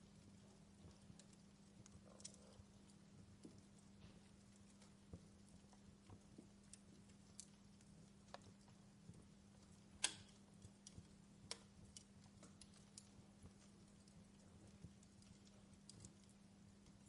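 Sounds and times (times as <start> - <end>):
faint steady hum: 0.0 - 17.0
fireplace crackling: 0.0 - 17.0.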